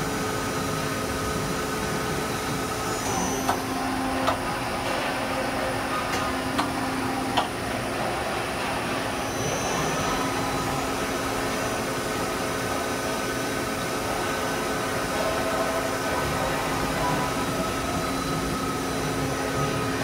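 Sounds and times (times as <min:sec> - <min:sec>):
lathe machine hum and whine: 0:00.0 - 0:20.0.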